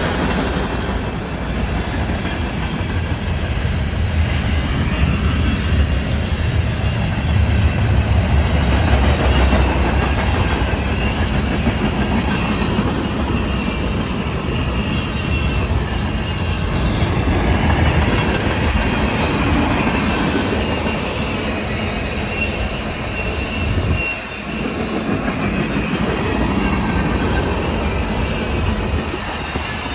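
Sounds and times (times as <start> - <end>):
train wheels on rail: 0.0 - 29.9.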